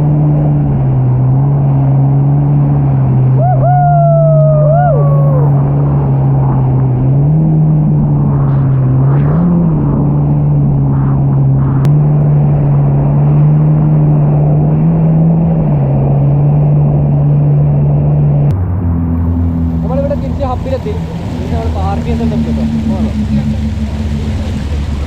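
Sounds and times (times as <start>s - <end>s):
jet ski engine running: 0.0s - 25.0s.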